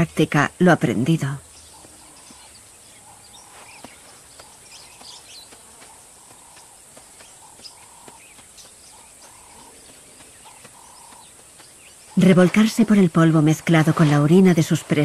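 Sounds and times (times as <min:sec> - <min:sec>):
birds chirping: 0:00.0 - 0:15.0
high-pitched insect hiss: 0:01.4 - 0:15.0.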